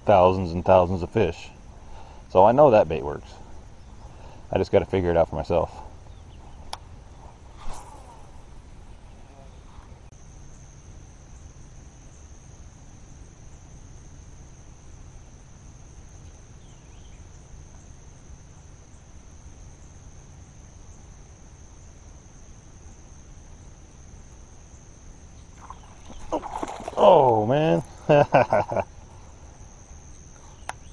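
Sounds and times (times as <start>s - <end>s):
insects trilling: 0.0s - 30.9s.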